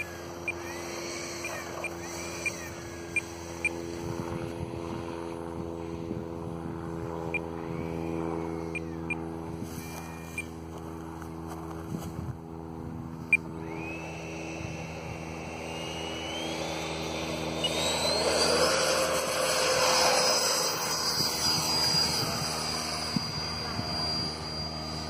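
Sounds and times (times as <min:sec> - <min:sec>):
model jet engine whine: 0:00.0 - 0:25.0.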